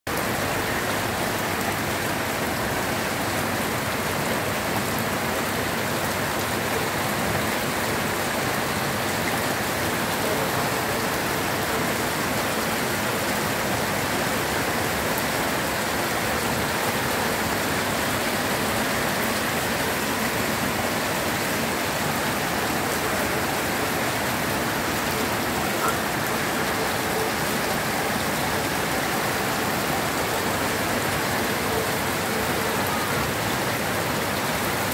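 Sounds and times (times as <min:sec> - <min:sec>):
rain on wet pavement: 0:00.1 - 0:34.9.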